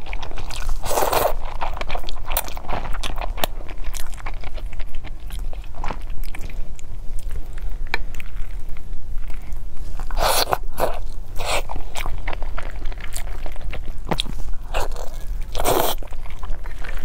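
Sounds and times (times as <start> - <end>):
low steady hum: 0.0 - 17.0
person chewing noodles: 0.0 - 17.0.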